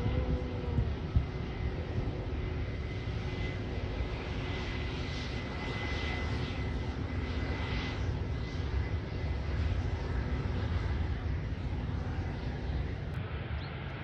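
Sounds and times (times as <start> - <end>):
airliner engines rumbling: 0.0 - 14.0
thin high engine whine: 0.0 - 14.0.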